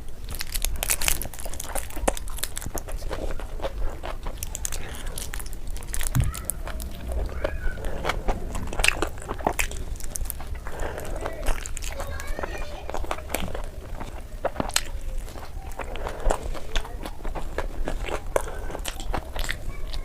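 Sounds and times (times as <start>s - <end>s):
wet chewing and smacking: 0.0s - 20.0s
small slurps: 1.1s - 20.0s.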